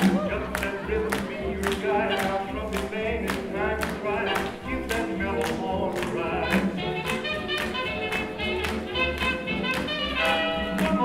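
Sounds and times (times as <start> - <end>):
swing jazz music: 0.0 - 11.0.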